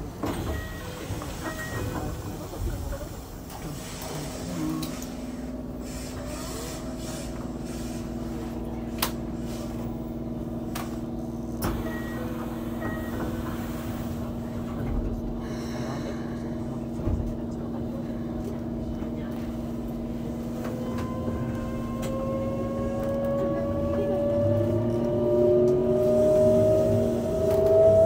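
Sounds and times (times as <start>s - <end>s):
train motor hum: 0.0s - 28.0s
wheels rumbling on rails: 0.0s - 28.0s.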